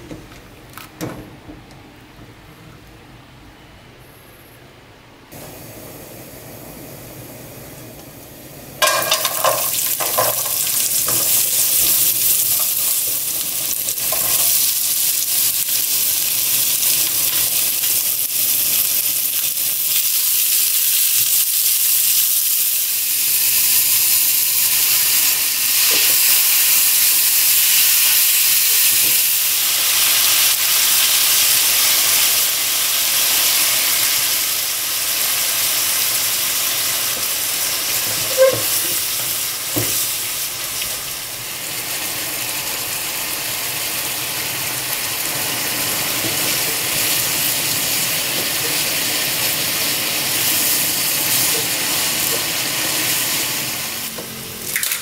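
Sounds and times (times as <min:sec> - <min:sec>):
food sizzling in a frying pan: 0:05.3 - 0:55.0.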